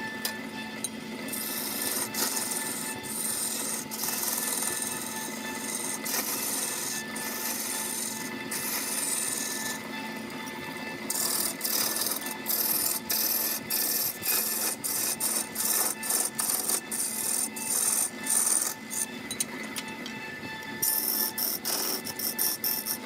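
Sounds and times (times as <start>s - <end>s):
lathe tool scraping wood: 1.2s - 19.3s, 20.7s - 23.0s.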